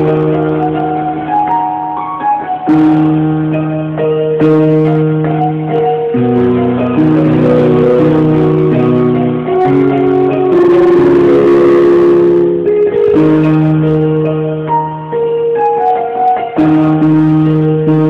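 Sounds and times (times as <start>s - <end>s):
electronic keyboard chords: 0.0s - 18.0s.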